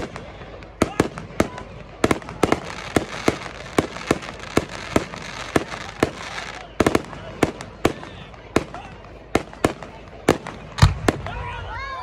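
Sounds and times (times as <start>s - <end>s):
fireworks bursting with sharp bangs: 0.0s - 11.6s
fireworks crackling: 0.0s - 11.6s.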